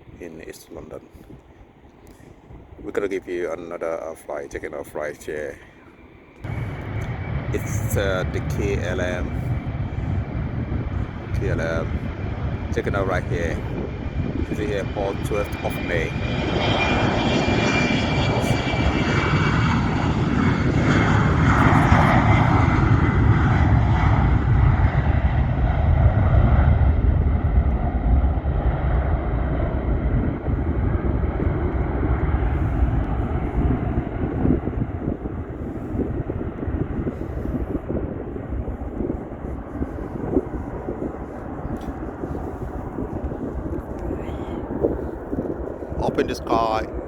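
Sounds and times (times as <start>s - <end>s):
jet airliner taking off: 0.0s - 47.0s.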